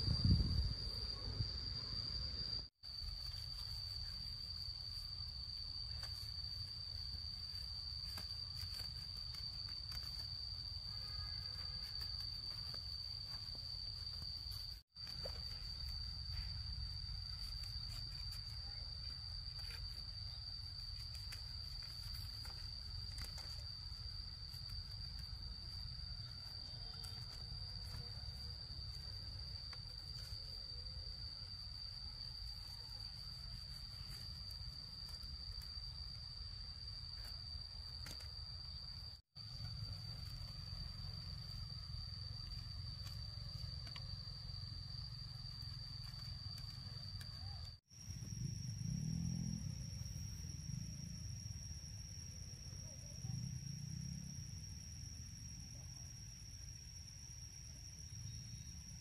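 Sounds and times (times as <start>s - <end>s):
insect trilling: 0.0s - 59.0s.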